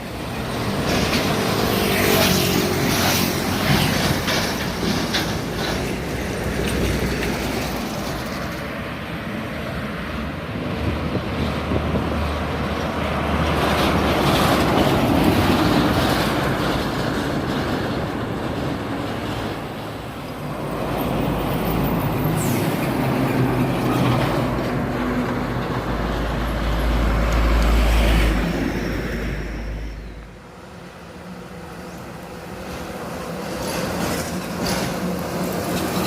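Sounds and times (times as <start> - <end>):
heavy trucks passing: 0.0 - 36.0.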